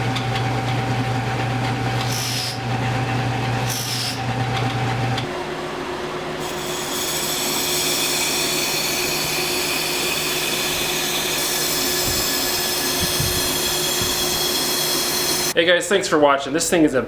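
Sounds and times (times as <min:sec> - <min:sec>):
electric power tool humming: 0:00.0 - 0:05.4, 0:06.3 - 0:15.6.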